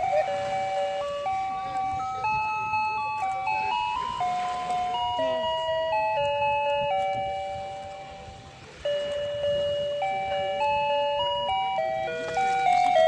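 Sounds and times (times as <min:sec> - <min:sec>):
toy electronic beeping tune: 0:00.0 - 0:13.0.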